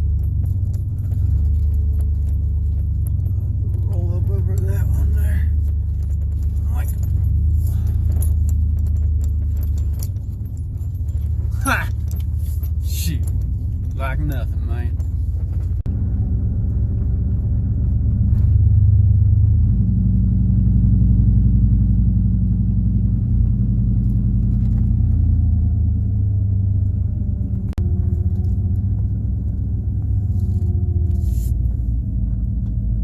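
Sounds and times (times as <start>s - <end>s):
car engine running off-road: 0.0s - 33.0s.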